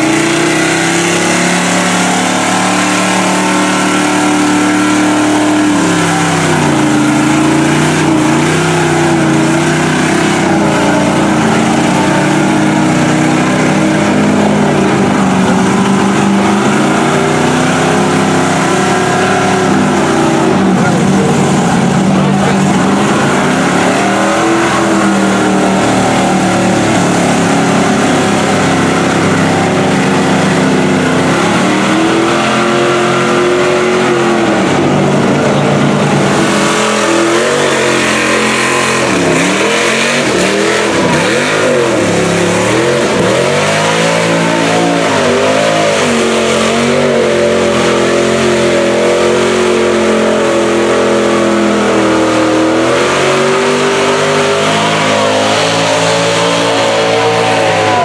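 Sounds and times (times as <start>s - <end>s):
truck engines revving hard: 0.0s - 58.0s.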